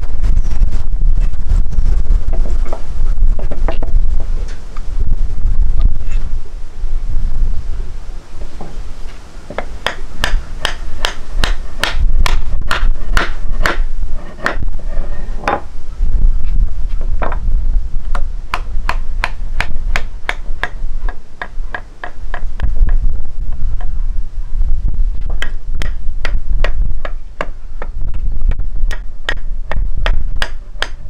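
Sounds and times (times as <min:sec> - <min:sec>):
low rumble: 0:00.0 - 0:09.1, 0:10.0 - 0:30.4.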